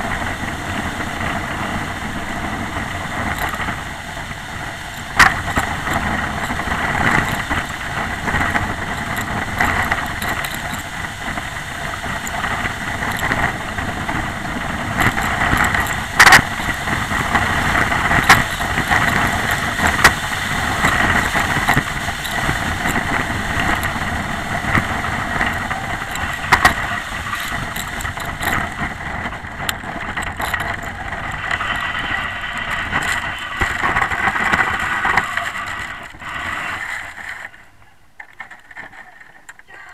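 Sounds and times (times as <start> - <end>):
bobsleigh runners rushing on ice: 0.0 - 39.9
sled knocking: 0.0 - 39.9.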